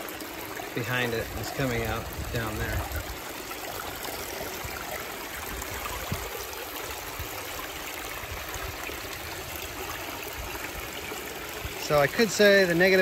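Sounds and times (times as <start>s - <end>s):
water running over weir: 0.0s - 13.0s.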